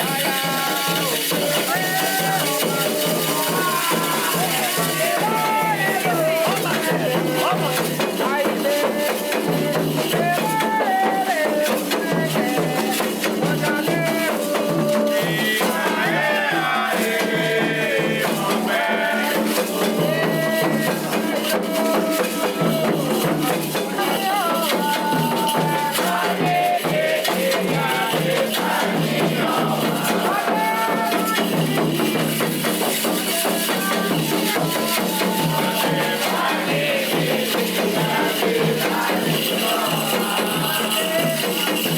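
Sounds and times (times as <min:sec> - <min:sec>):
shaken rattle: 0:00.0 - 0:41.9
voices singing a chant: 0:00.0 - 0:41.9.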